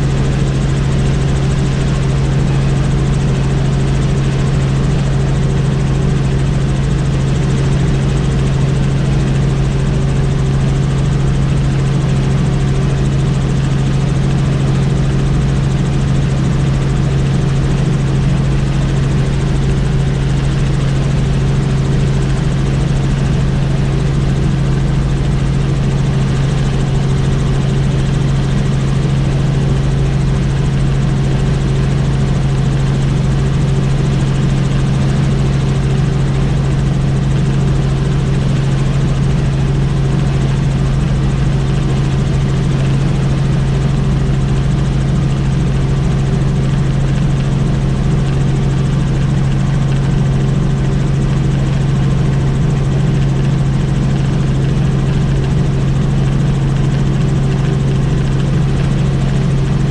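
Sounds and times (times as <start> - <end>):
helicopter engine and rotor noise: 0.0 - 59.9.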